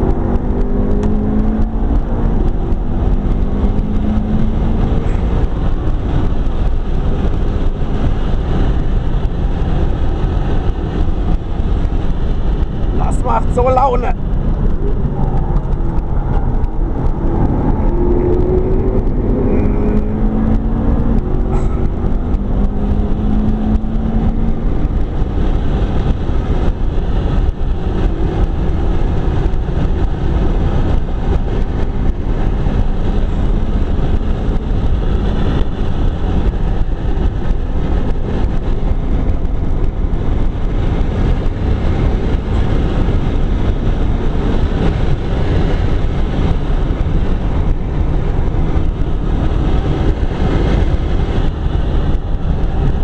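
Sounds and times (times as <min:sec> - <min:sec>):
car engine roar inside cabin: 0:00.0 - 0:53.0.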